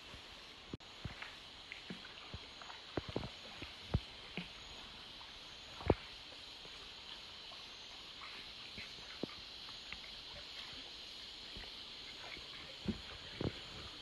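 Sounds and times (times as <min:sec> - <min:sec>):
insects humming: 0:00.0 - 0:14.0
paddle splashing in water: 0:00.8 - 0:14.0.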